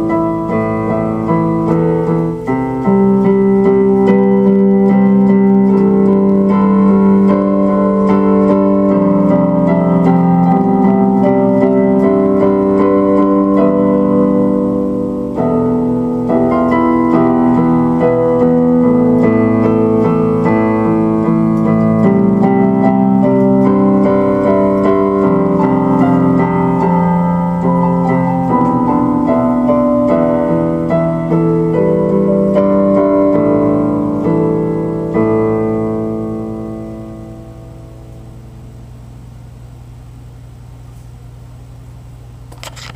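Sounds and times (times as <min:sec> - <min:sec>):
electric piano chords and melody: 0:00.0 - 0:39.6.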